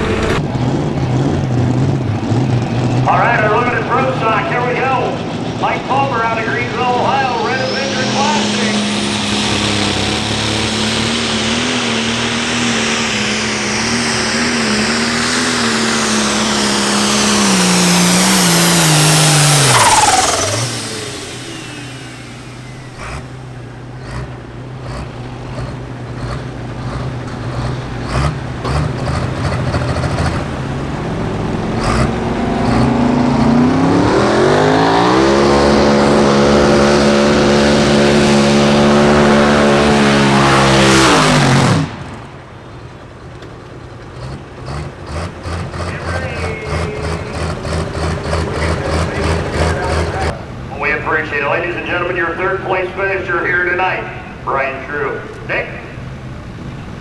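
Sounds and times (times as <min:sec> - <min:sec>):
high engine whine: 0:00.0 - 0:57.0
tractor diesel engine revving hard: 0:00.0 - 0:57.0.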